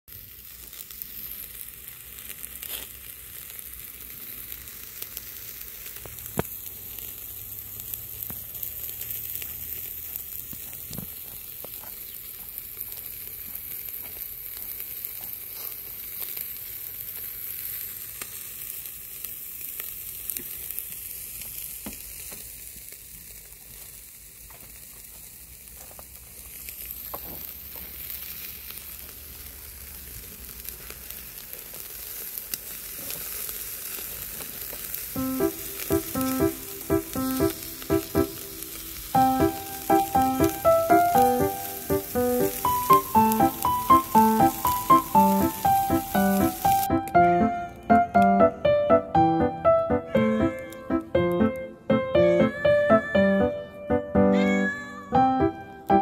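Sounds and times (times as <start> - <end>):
skewers sizzling on grill: 0.0 - 56.0.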